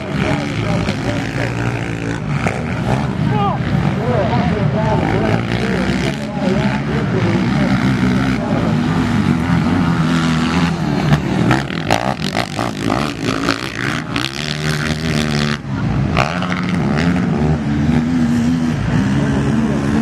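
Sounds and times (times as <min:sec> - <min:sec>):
quad engines revving: 0:00.0 - 0:20.0.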